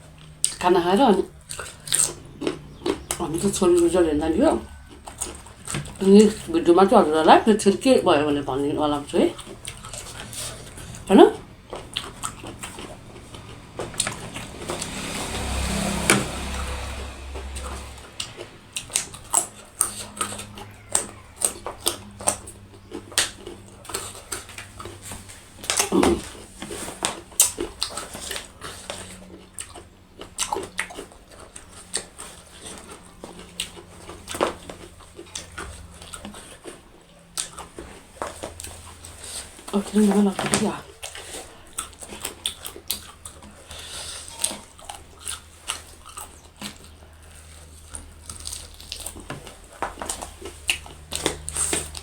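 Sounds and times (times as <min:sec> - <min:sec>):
person chewing and smacking: 0:00.0 - 0:52.0.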